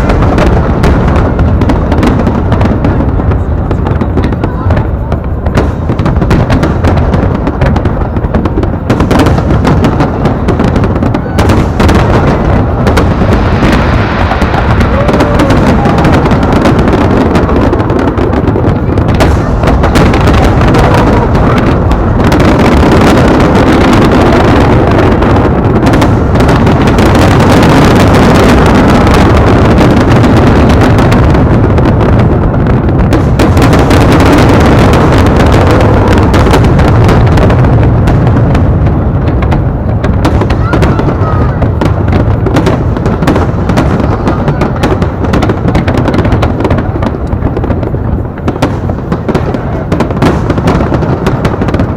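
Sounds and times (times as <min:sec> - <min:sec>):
fireworks shell bursts and booms: 0:00.0 - 0:51.9.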